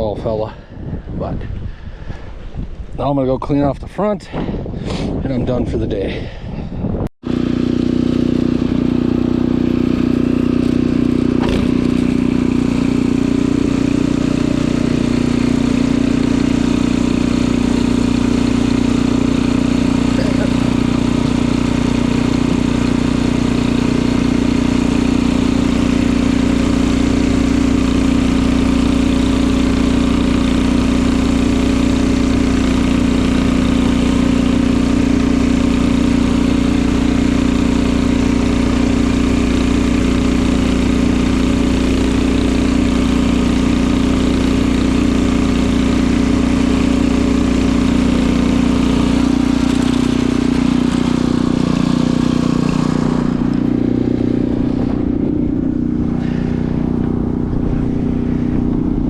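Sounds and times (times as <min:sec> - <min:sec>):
snowblower engine running: 0:07.2 - 0:59.0.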